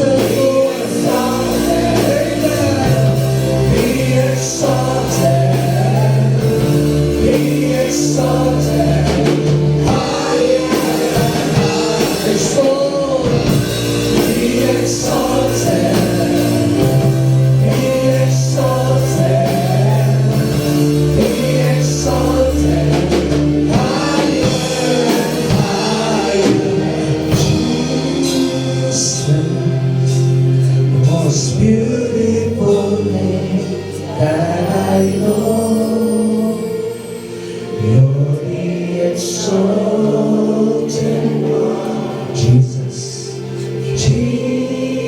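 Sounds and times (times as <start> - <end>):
band playing worship song: 0.0 - 45.0
people singing: 0.0 - 45.0.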